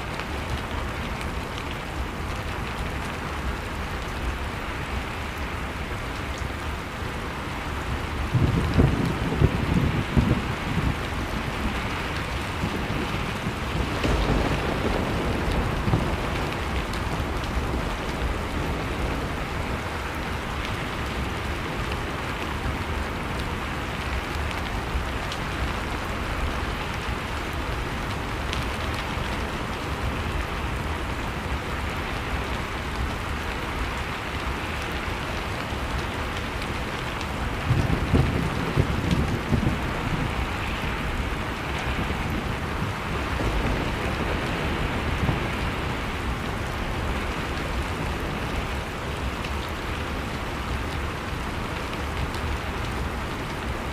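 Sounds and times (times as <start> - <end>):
blizzard wind: 0.0 - 53.9.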